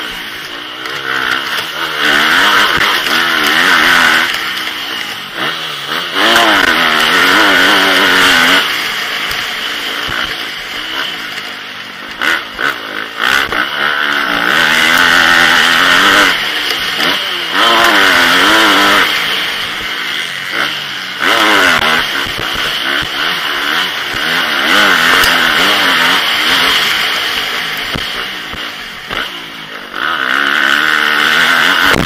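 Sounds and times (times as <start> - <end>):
motocross bike engine revving: 0.0 - 32.0.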